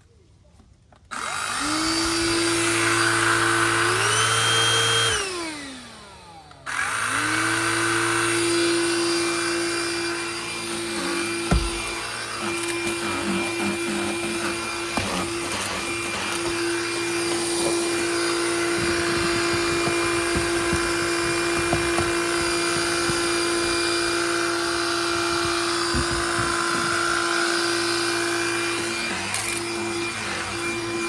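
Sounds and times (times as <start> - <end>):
handheld vacuum running: 1.1 - 31.0.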